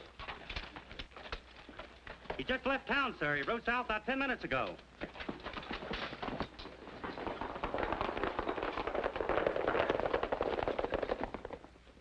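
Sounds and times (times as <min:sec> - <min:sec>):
horses galloping hoofbeats: 0:00.0 - 0:12.0.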